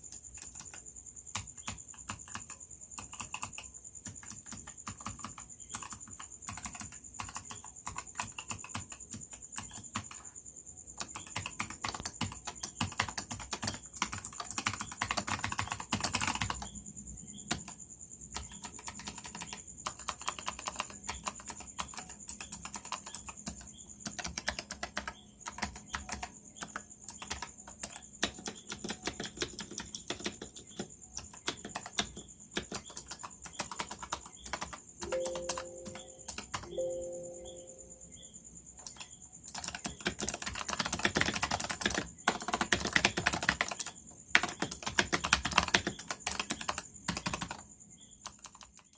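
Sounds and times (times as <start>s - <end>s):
clicky keyboard typing: 0.0s - 10.4s, 11.0s - 16.8s, 17.4s - 37.9s, 38.8s - 48.9s.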